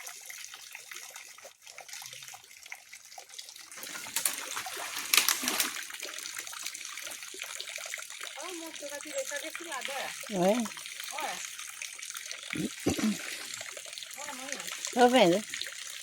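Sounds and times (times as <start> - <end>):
pond water splashing and trickling: 0.0 - 16.0.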